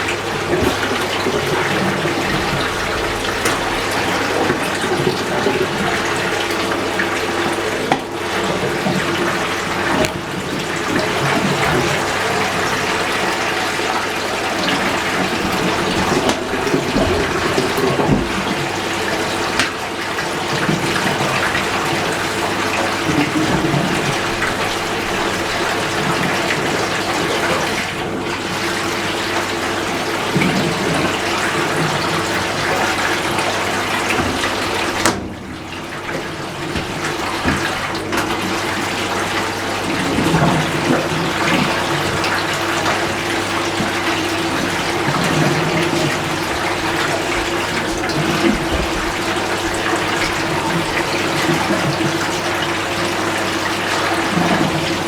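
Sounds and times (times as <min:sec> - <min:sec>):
water rushing into washing machine: 0:00.0 - 0:55.0.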